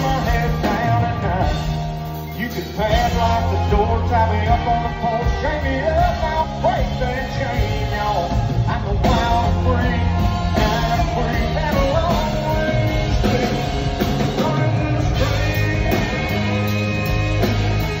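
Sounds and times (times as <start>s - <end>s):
country-rock band playing loud: 0.0s - 18.0s
electric guitar: 0.0s - 18.0s
male lead vocal: 0.0s - 18.0s.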